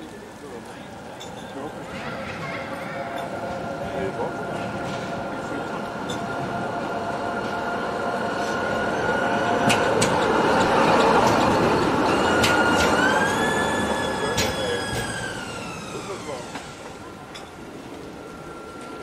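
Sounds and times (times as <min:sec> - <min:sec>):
tram rolling noise: 0:00.0 - 0:19.0.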